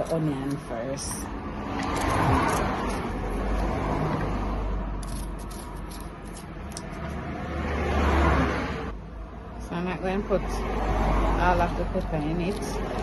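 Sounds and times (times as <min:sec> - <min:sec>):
passing motor vehicles: 0:00.0 - 0:13.0.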